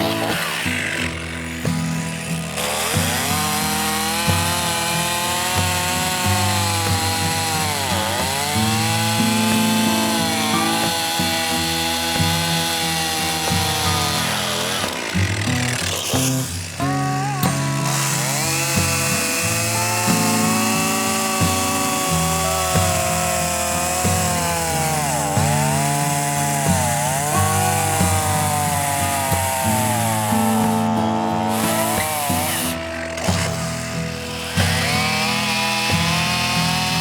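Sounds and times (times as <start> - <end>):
chainsaw cutting through log: 0.0 - 37.0.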